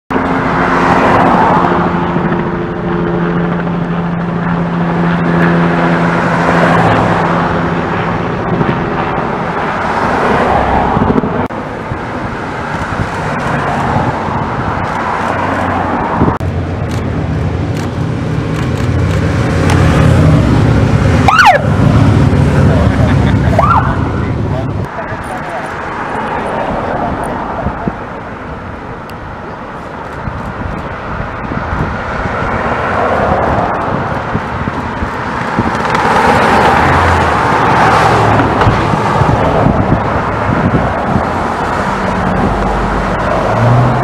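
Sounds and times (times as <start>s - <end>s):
car passing: 0.1s - 44.0s
motorcycle engines rumbling: 0.1s - 44.0s
street traffic: 0.1s - 44.0s.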